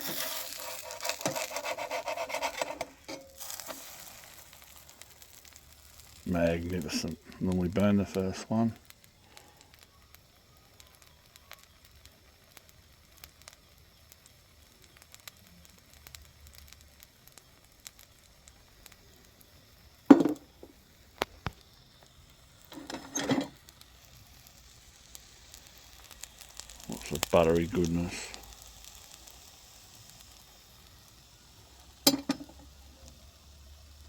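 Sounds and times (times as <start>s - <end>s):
batter sizzling in a pan: 0.0s - 34.0s.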